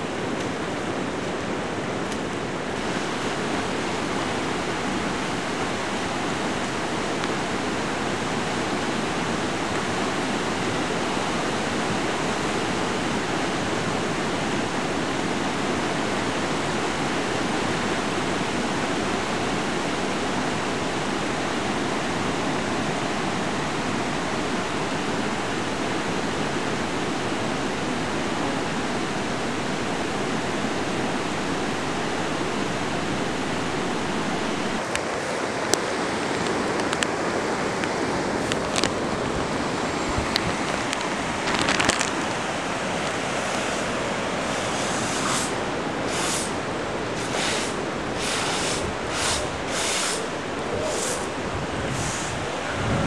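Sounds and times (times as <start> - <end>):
floodwater rushing: 0.0 - 53.0.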